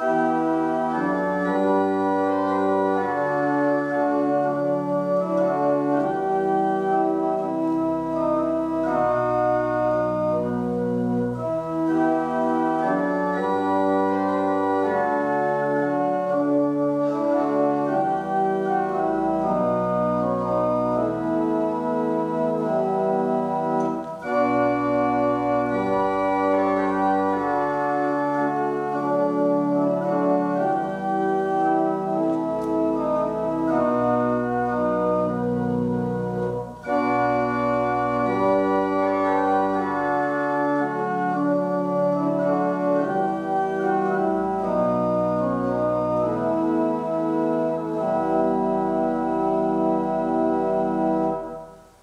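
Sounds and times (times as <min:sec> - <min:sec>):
pipe organ playing a hymn: 0:00.0 - 0:52.0.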